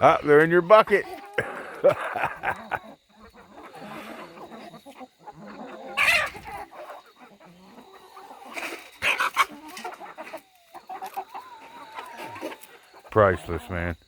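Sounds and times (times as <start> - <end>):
chickens clucking: 0.0 - 14.0
sharp chicken calls: 0.0 - 14.0.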